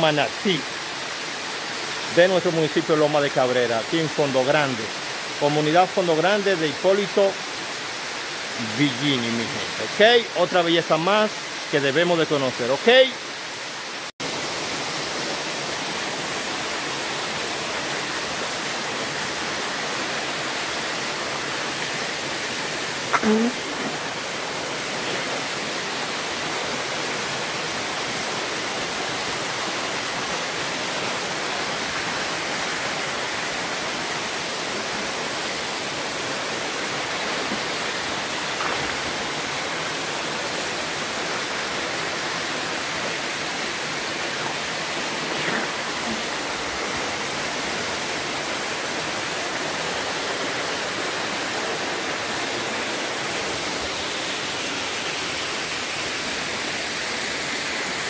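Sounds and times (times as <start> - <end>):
waterfall rushing into pool: 0.0 - 58.0.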